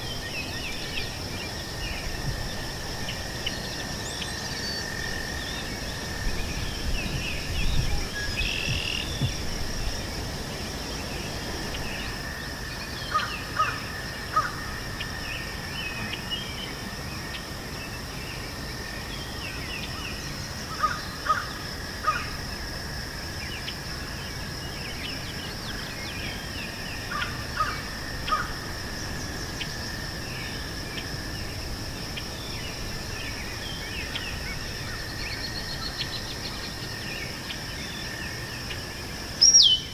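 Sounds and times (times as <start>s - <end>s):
high insect trill: 0.0s - 39.9s.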